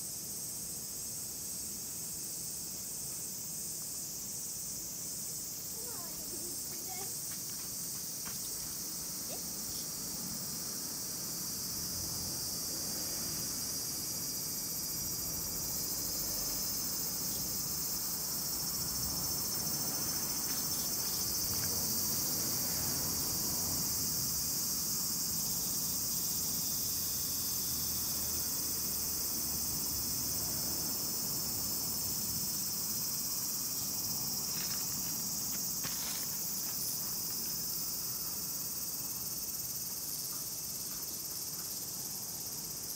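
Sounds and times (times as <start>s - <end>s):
insects chorus: 0.0s - 42.9s.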